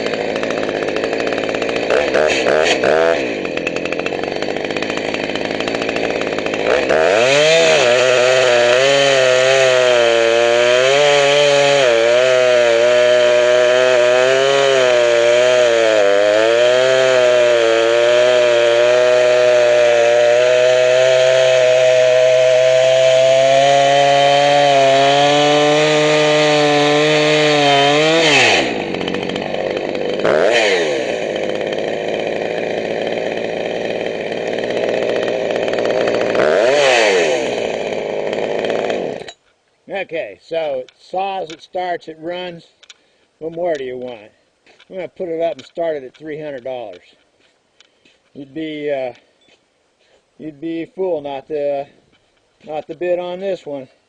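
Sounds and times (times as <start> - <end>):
chainsaw cutting dry wood: 0.0 - 39.6, 40.5 - 54.0.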